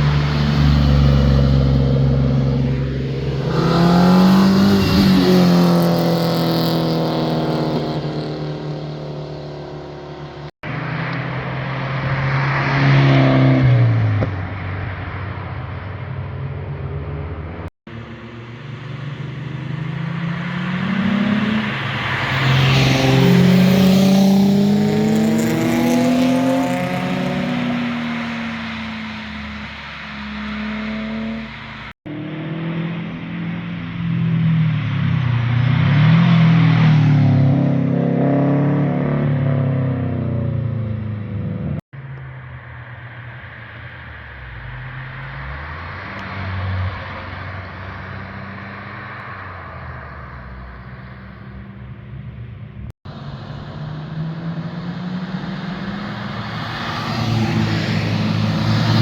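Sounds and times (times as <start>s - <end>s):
cars driving past accelerating: 0.0s - 59.0s.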